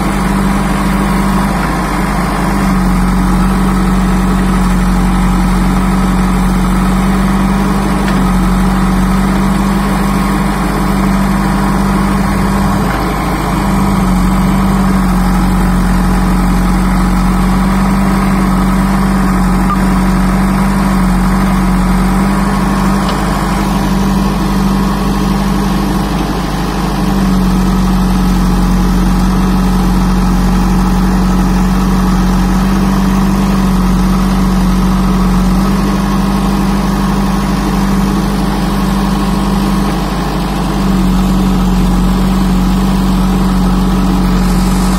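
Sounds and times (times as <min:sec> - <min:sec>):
backhoe digging soil: 0:00.0 - 0:44.9
diesel engine humming: 0:00.0 - 0:44.9.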